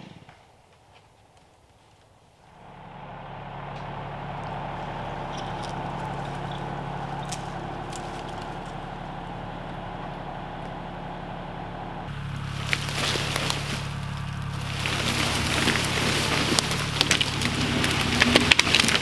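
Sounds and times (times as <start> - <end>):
small engine running: 2.5 - 19.0.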